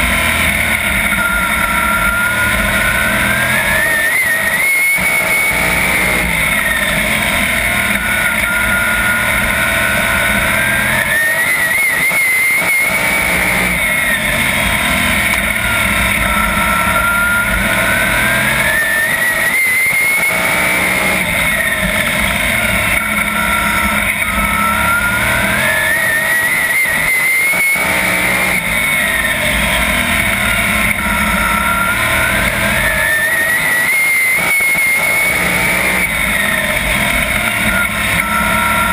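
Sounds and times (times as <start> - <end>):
race car engine at full throttle: 0.0 - 38.9.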